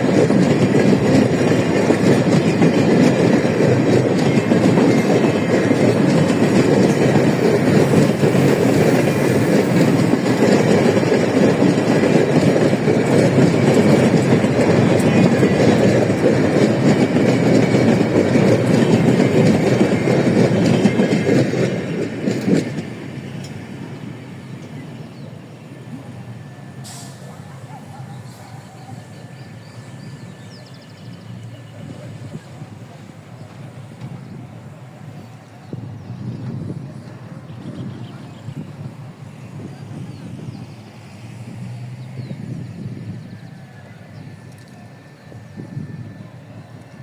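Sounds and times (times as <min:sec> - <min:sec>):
train wheels clattering over rail joints: 0:00.0 - 0:47.0.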